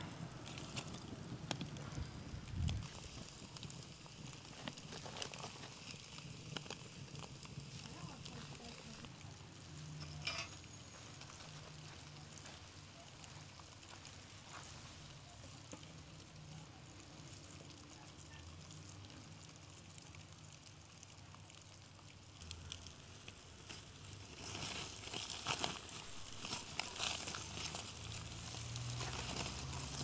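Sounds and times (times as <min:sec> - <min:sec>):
embers crackling and hissing: 0:00.0 - 0:30.0
small ticks of fire: 0:00.0 - 0:30.0.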